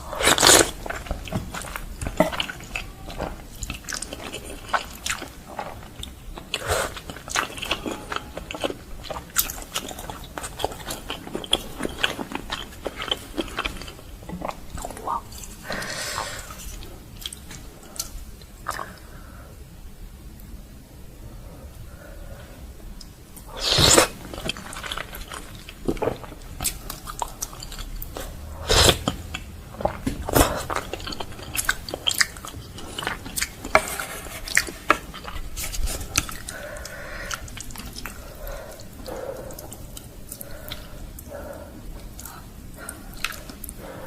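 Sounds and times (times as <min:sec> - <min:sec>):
chewing noodles with mouth clicks: 0:00.0 - 0:19.0, 0:23.6 - 0:43.9.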